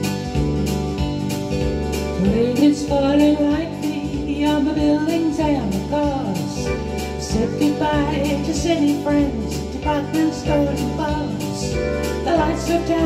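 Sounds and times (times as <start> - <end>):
electronic keyboard with steady beat: 0.0 - 13.0
woman singing slow song: 2.2 - 13.0.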